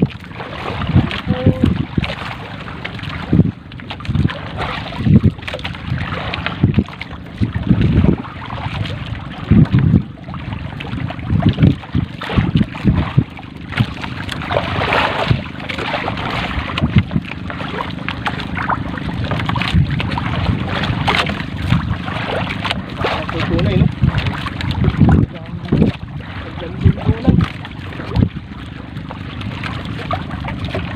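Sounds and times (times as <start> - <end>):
water splashing against boat: 0.0 - 30.9
wind buffeting microphone: 0.0 - 30.9.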